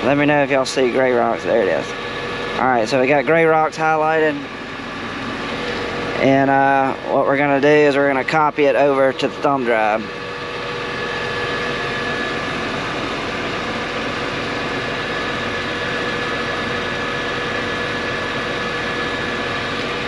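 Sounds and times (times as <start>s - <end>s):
cab fan rushing: 0.0s - 20.0s
faint whining tones: 0.0s - 20.0s
tractor engine hum: 0.0s - 20.0s.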